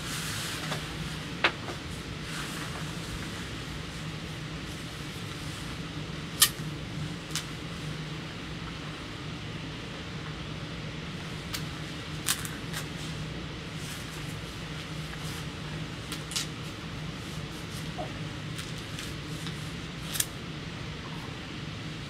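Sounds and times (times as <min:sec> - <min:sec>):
low background hum and hiss: 0:00.0 - 0:22.0.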